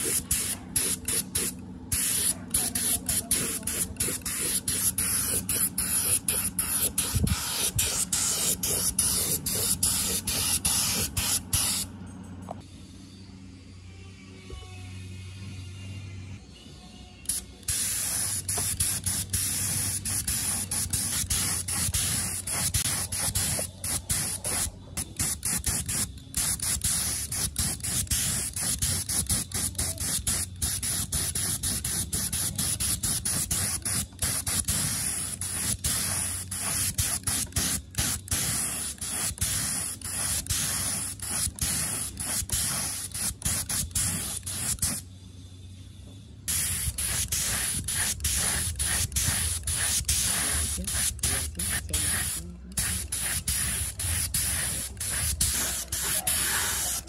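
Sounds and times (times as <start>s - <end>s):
spray paint hissing: 0.0s - 11.9s, 17.3s - 45.0s, 46.5s - 57.0s.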